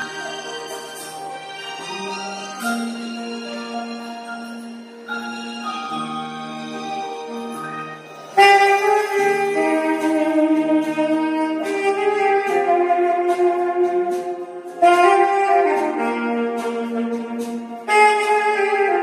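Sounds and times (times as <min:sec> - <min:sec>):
backing track: 0:00.0 - 0:19.0
saxophone slow melody: 0:00.0 - 0:19.0.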